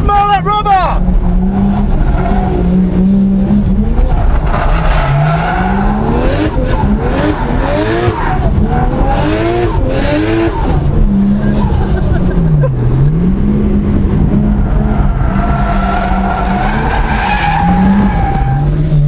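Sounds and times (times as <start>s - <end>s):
car engine revving hard: 1.0s - 19.0s.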